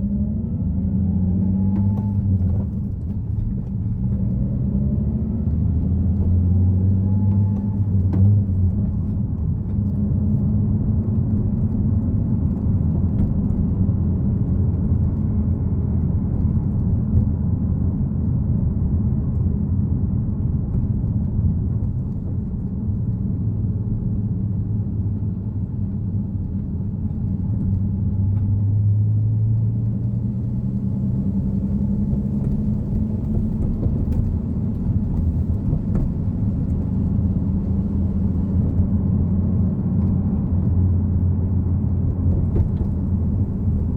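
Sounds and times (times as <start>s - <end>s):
car engine drone: 0.0s - 43.9s
road noise: 0.0s - 43.9s.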